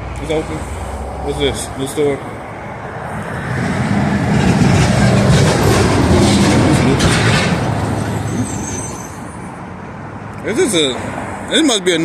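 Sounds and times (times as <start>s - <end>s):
large vehicle passing: 0.0s - 11.6s.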